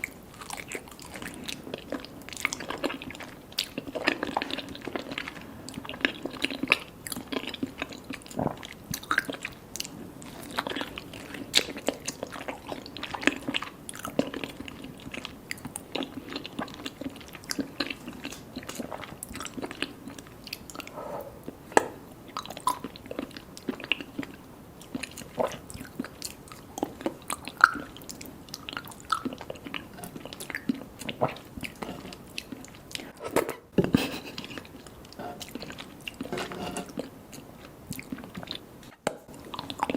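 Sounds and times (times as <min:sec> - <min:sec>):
person chewing wet food: 0:00.0 - 0:39.9.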